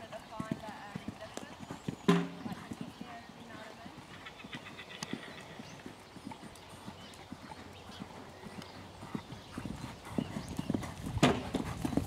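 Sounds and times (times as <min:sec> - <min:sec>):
horse hooves cantering on sand: 0:00.0 - 0:12.0.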